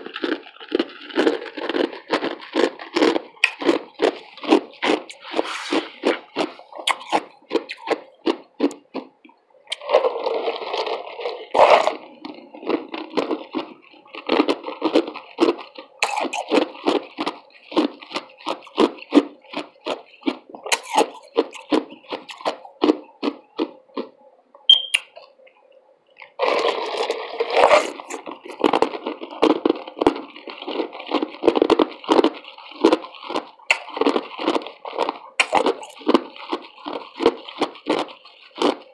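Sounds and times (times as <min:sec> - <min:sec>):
chewing and crunching ice: 0:00.0 - 0:38.9.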